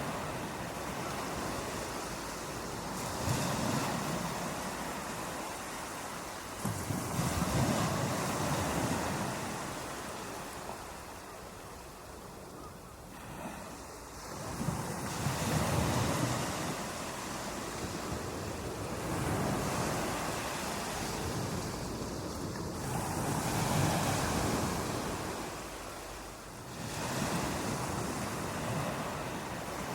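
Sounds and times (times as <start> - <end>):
ocean waves breaking on beach: 0.0 - 29.9.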